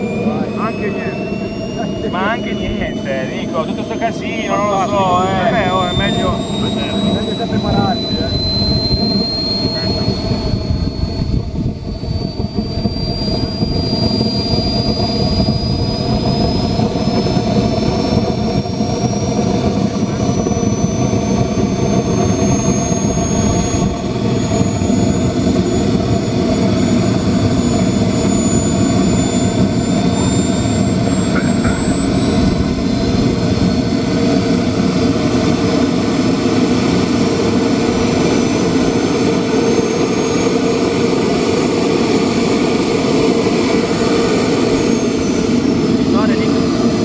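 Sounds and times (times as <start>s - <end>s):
high turbine whine rising: 0.0s - 47.0s
jet engine roar: 0.0s - 47.0s.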